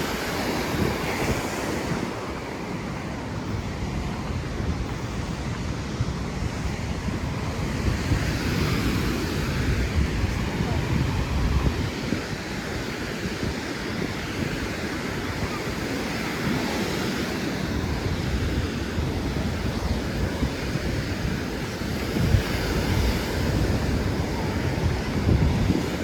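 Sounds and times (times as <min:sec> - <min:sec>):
surf washing onto beach: 0:00.0 - 0:26.0
wind buffeting microphone: 0:00.0 - 0:26.0.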